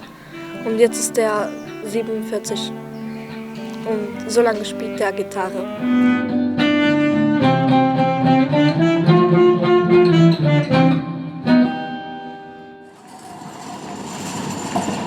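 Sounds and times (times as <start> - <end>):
guitar melody in plucked notes: 0.0 - 12.9.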